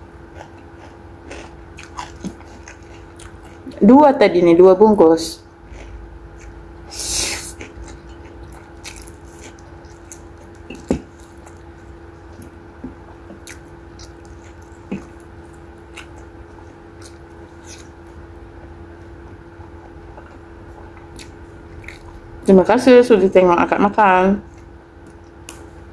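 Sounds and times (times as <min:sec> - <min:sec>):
faint steady hum: 0:00.0 - 0:25.9
person chewing noodles: 0:00.3 - 0:03.7, 0:05.6 - 0:22.5, 0:24.4 - 0:25.9.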